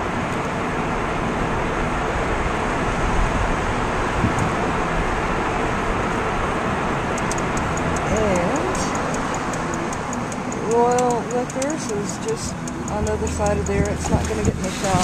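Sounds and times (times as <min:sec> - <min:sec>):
car road noise: 0:00.0 - 0:15.0.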